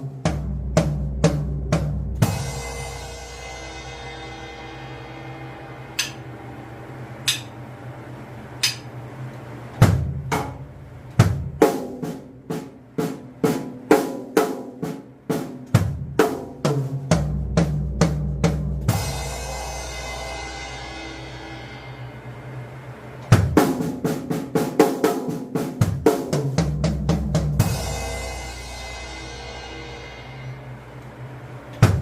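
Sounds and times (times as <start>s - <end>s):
drum kit playing: 0.0s - 9.0s, 9.7s - 32.0s
faint backing music: 0.0s - 32.0s.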